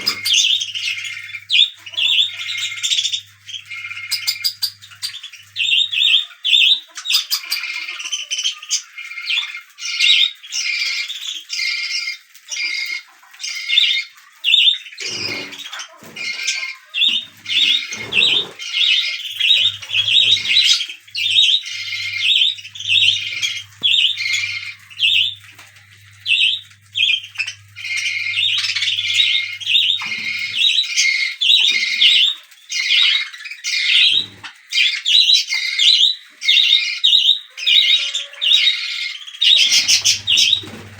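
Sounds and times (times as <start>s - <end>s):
baby budgerigars squawking and chirping: 0.0s - 40.9s.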